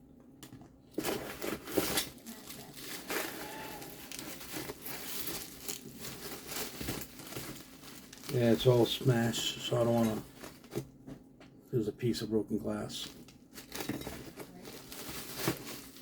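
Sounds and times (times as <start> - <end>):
plastic and paper crinkling: 1.0 - 11.0, 12.9 - 16.0.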